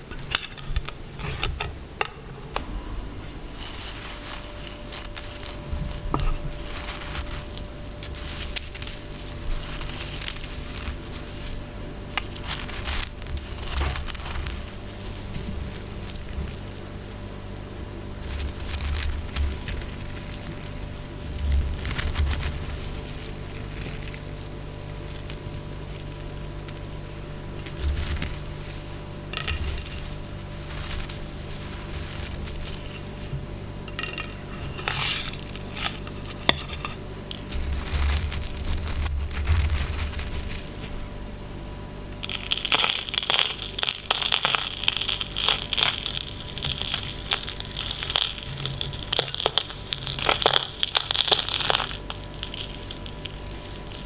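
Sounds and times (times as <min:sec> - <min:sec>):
scratching and crinkling: 0:00.0 - 0:54.0.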